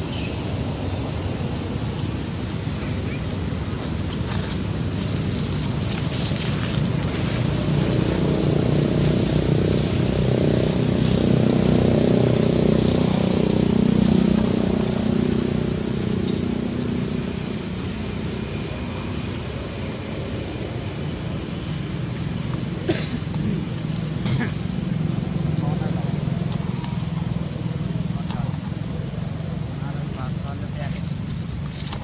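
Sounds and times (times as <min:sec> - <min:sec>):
passing vehicle engine hum: 0:00.0 - 0:32.0.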